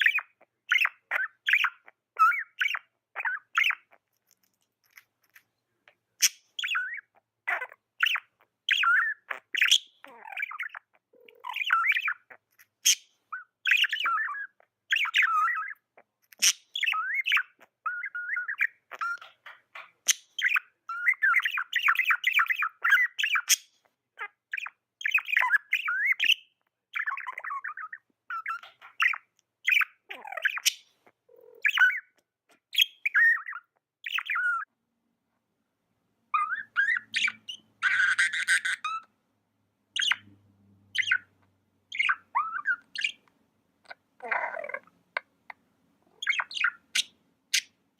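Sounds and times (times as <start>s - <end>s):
budgies chirping and chattering: 0.0s - 34.7s, 36.3s - 39.1s, 39.9s - 47.8s.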